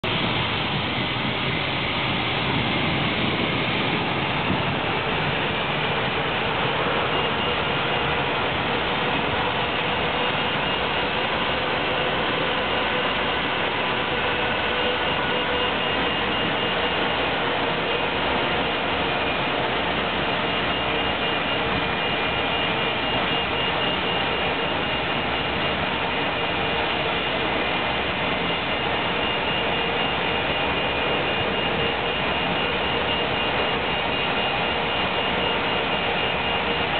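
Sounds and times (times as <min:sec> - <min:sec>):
jet turbine roar: 0:00.0 - 0:36.9
thin high whine: 0:00.1 - 0:36.9.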